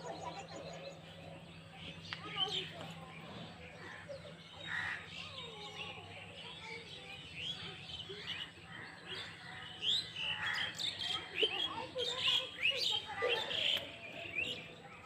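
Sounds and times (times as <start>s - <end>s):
harsh bird calls: 0.0s - 14.8s
small birds chirping: 0.0s - 15.0s.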